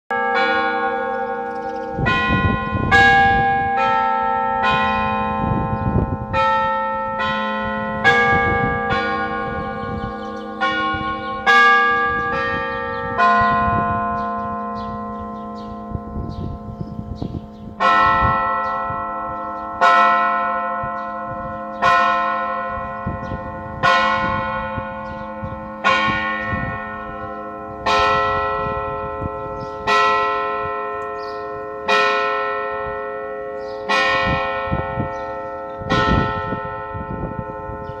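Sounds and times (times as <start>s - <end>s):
church bell tolling: 0.1s - 38.0s.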